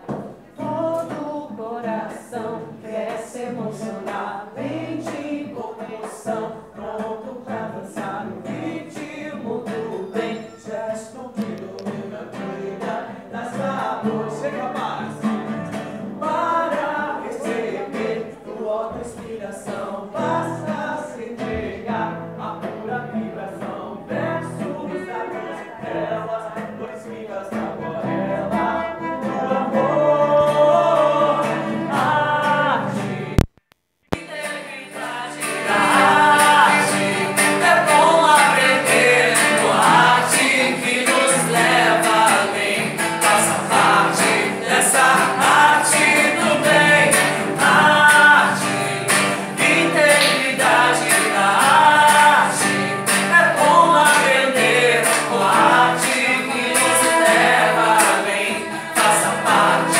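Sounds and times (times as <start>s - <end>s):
strummed acoustic guitar: 0.0s - 33.5s, 34.2s - 59.9s
man singing: 0.4s - 33.5s, 34.2s - 59.9s.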